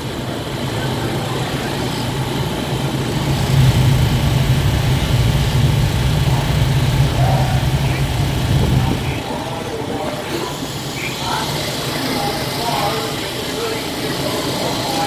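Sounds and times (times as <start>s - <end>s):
race car engines rumbling: 0.0s - 15.0s.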